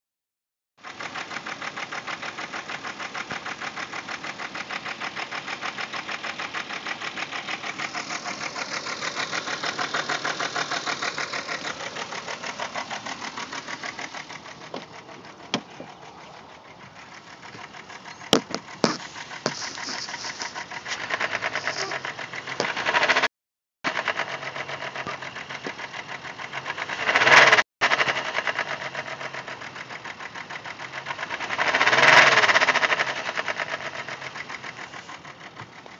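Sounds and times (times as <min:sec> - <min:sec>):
car engine ticking rattle: 0:00.8 - 0:23.3, 0:23.9 - 0:35.9.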